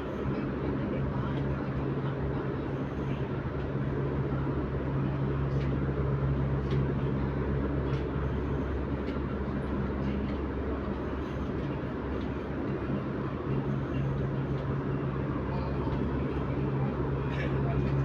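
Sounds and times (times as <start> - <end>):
train cabin hum and rumble: 0.0 - 18.0.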